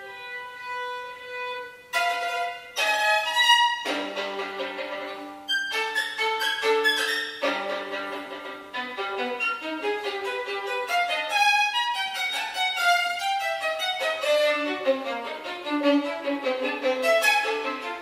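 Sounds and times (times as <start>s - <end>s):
solo violin playing fast: 0.0s - 18.0s.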